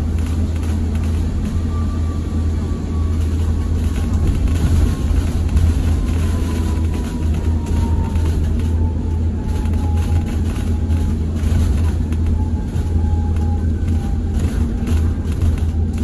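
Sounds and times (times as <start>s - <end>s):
bus road rumble: 0.0s - 16.0s.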